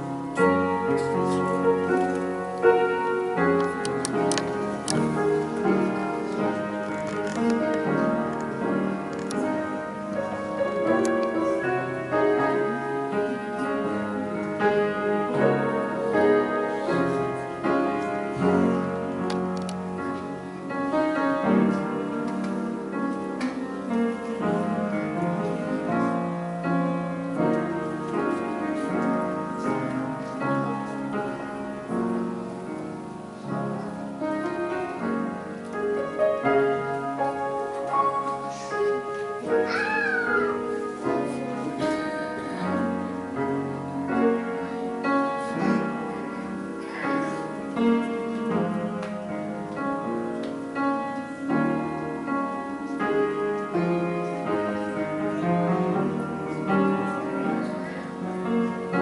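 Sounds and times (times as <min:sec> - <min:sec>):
piano chords: 0:00.0 - 0:59.0.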